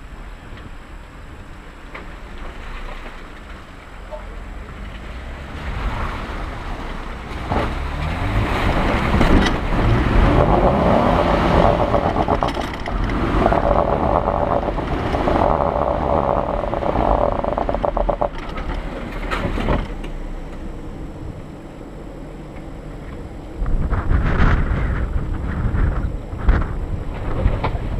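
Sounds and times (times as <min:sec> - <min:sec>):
off-road vehicle engine revving: 0:04.1 - 0:27.9.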